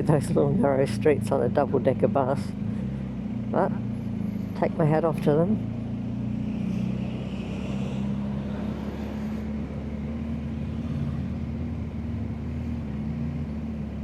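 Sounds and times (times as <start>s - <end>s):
motorcycle engine hum: 0.0s - 14.0s
road and wind noise: 0.0s - 14.0s.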